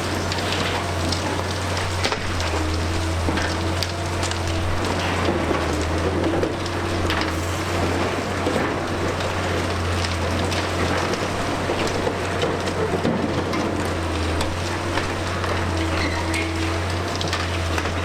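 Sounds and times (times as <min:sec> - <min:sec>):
concrete debris crackling: 0:00.0 - 0:18.0
excavator engine humming: 0:00.0 - 0:18.0.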